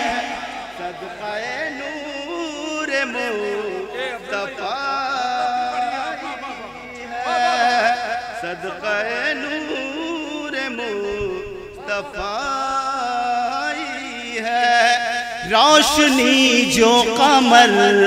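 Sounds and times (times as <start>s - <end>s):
man singing through loudspeakers: 0.0s - 18.0s.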